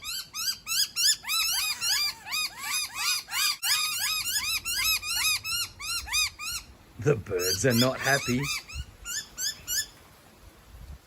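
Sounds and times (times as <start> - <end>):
birds giving alarm calls: 0.0 - 10.0.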